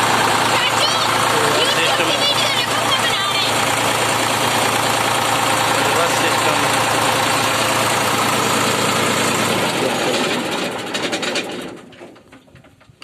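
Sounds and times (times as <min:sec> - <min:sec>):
diesel engine winding down: 0:00.0 - 0:12.3.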